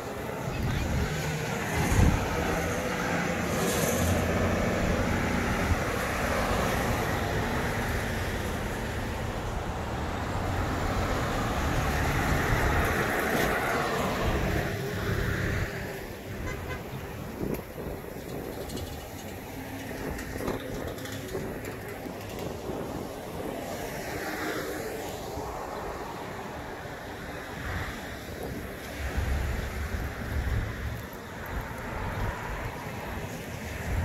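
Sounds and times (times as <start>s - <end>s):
cars passing: 0.0s - 34.0s
engines humming: 0.0s - 34.0s.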